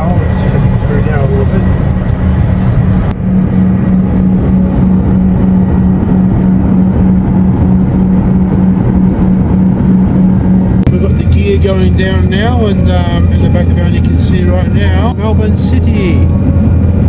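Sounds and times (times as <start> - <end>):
constant hum: 0.0 - 17.0
jet cabin engine rumble: 0.0 - 17.0.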